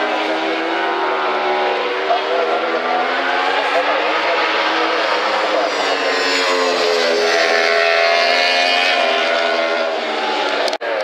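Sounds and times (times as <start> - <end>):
motorbike engines revving high: 0.0 - 11.0.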